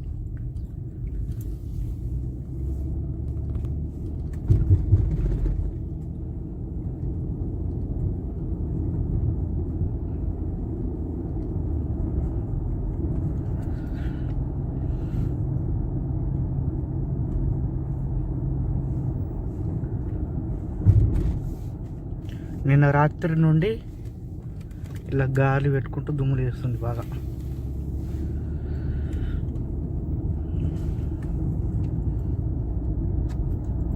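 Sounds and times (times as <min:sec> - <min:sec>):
car engine: 0:00.0 - 0:33.9
road noise: 0:00.0 - 0:33.9.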